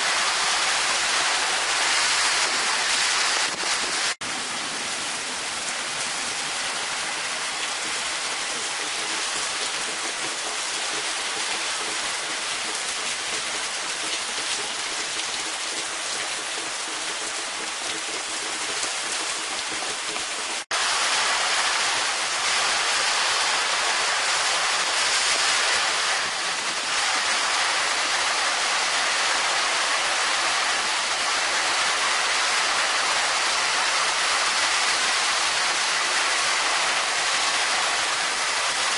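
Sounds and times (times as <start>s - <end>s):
heavy wind-driven rain: 0.0s - 38.9s.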